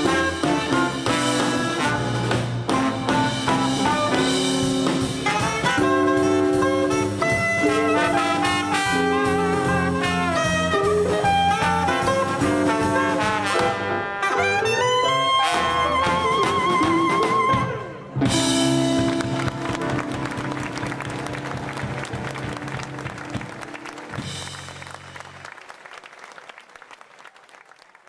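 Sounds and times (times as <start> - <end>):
jazz band playing: 0.0 - 25.6.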